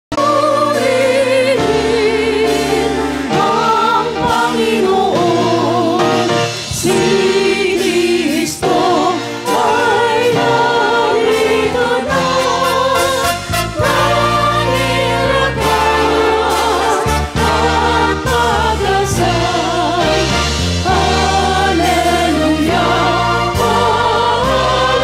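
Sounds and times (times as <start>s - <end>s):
choir singing gospel in harmony: 0.1s - 25.0s.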